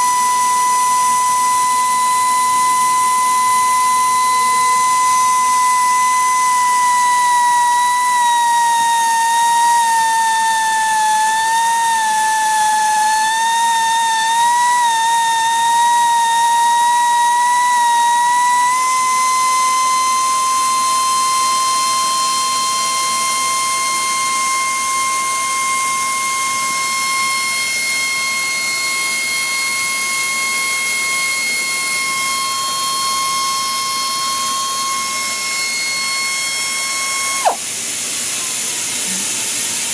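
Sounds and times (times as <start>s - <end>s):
pneumatic drill whining: 0.0s - 39.9s.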